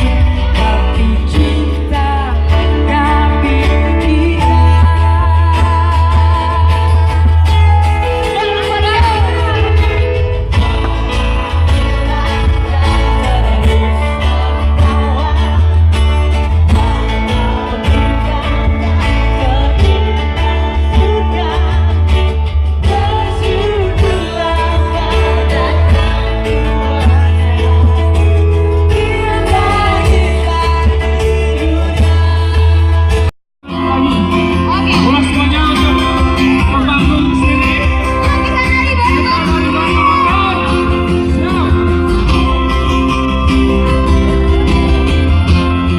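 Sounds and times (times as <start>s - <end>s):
person singing: 0.0s - 45.9s
plucked string instruments: 0.0s - 45.9s
steady bass: 0.0s - 45.9s.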